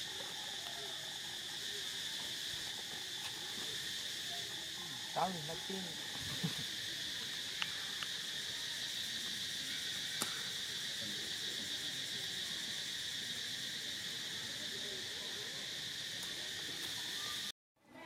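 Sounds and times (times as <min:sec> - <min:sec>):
insect chorus drone: 0:00.0 - 0:17.5.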